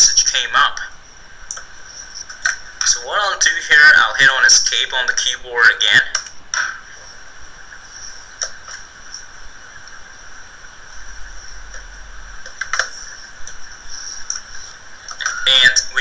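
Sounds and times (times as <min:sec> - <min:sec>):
microphone hiss: 0:00.0 - 0:16.0.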